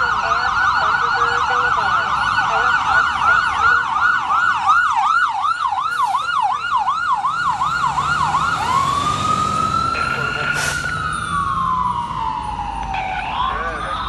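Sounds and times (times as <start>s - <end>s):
fire engine siren yelping: 0.0s - 14.0s.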